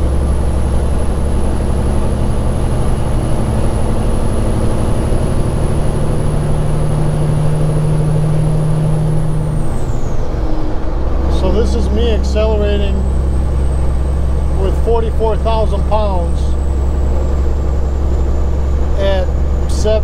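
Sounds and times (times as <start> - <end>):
diesel truck engine running: 0.0 - 20.0
high whine sliding down: 0.0 - 20.0.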